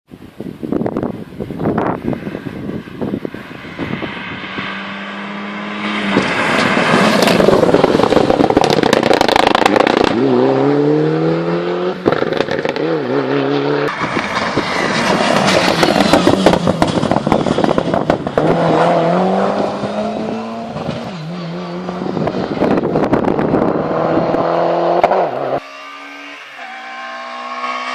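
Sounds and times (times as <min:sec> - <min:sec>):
racing car engine revving: 0:03.5 - 0:27.9.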